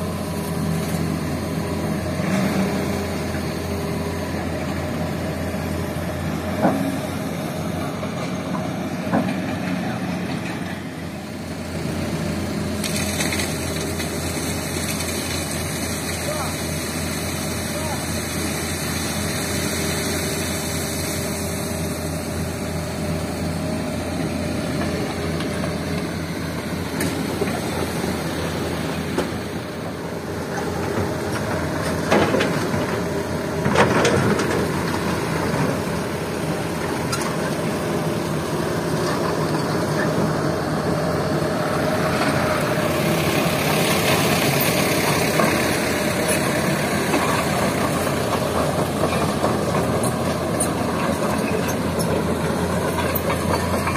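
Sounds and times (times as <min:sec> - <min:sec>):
diesel engines running: 0:00.0 - 0:53.9.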